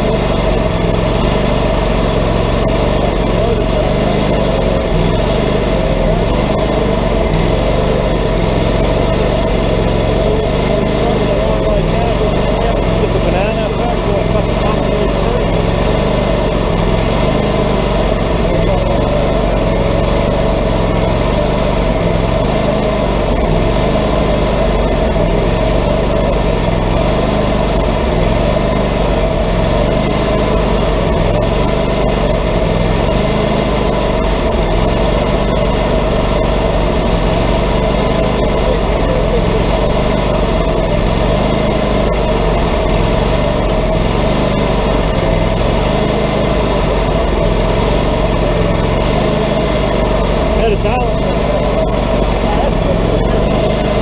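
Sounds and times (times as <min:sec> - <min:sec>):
band sawmill sawing log: 0:00.0 - 0:54.0.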